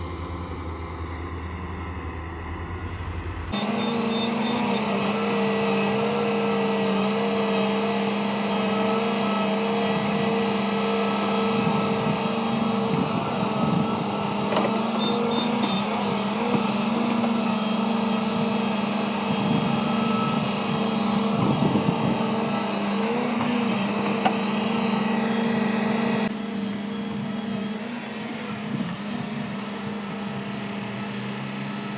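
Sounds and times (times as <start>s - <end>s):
excavator engine and hydraulics: 0.0s - 31.9s.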